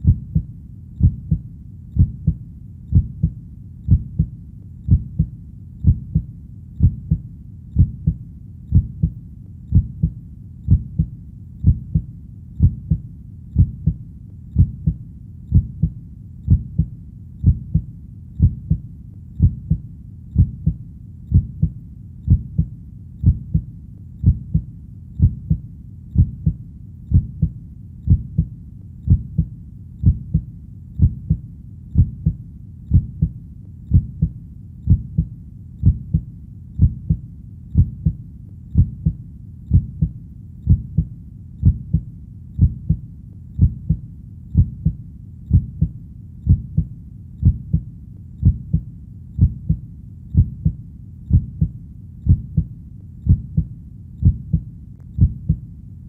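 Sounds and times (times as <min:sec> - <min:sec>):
heartbeat thumping: 0:00.0 - 0:37.2, 0:37.8 - 0:43.0, 0:43.6 - 0:55.6
faint low background noise: 0:00.0 - 0:56.0.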